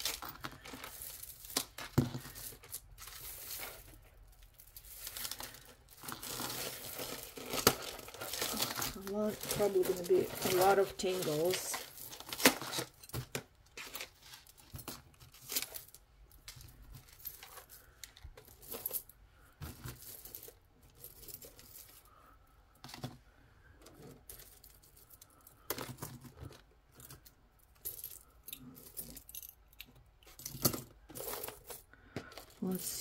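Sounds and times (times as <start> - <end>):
jewelry clinking and rattling: 0.0 - 22.2, 23.8 - 33.0.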